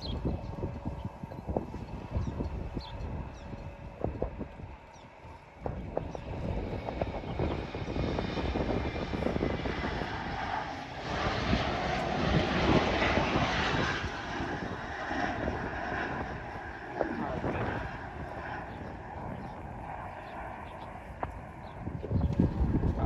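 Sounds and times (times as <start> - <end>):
airplane engines rumbling: 0.0 - 23.0.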